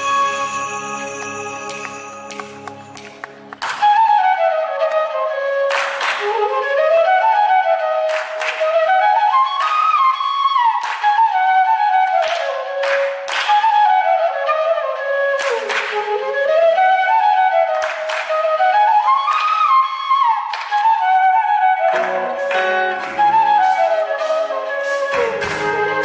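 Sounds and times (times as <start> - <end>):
wind instrument melody: 0.0 - 26.0.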